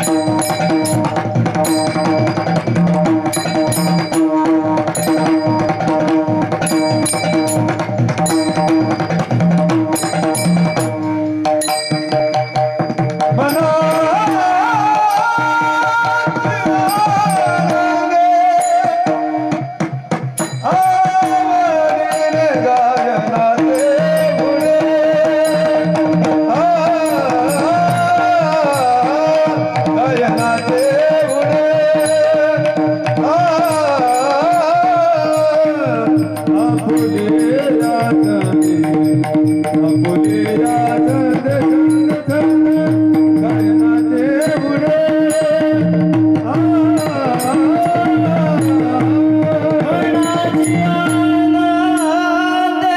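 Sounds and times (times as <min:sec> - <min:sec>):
drum beat: 0:00.0 - 0:52.9
man singing: 0:00.0 - 0:52.9.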